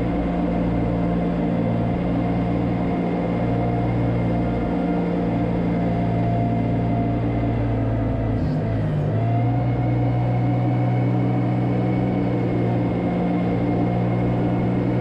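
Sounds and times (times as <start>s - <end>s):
farm vehicle engine running: 0.0s - 15.0s.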